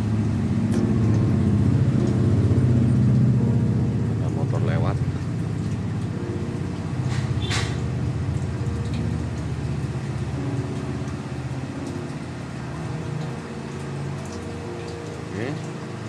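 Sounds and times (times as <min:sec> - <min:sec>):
motorcycle passing by: 0:00.0 - 0:13.1.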